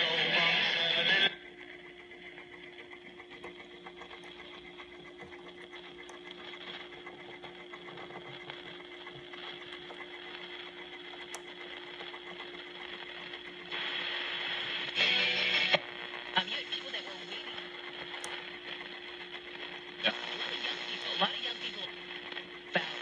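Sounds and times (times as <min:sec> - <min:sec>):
radio static hum: 0:00.0 - 0:23.0
faint hiss and crackle: 0:02.8 - 0:23.0.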